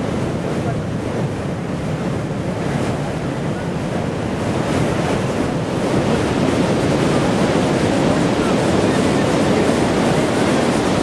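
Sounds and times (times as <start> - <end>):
heavy ocean surf: 0.0 - 11.0
wind buffeting microphone: 0.0 - 11.0.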